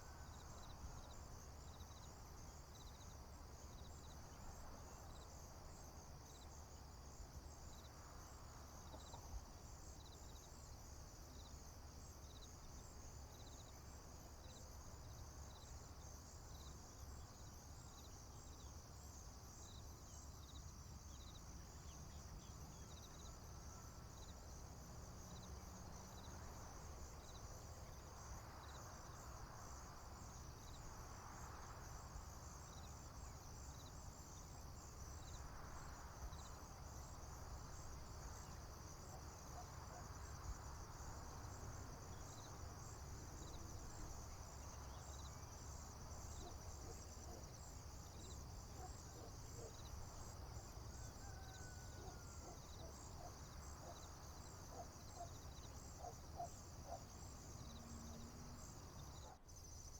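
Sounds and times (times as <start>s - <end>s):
crickets and insects chirring: 0.0s - 59.9s.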